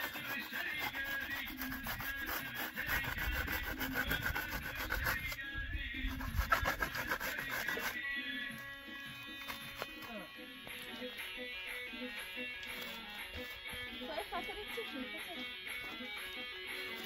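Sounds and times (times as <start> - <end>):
faint music: 0.0 - 17.0
rapid rhythmic scraping: 0.0 - 17.0.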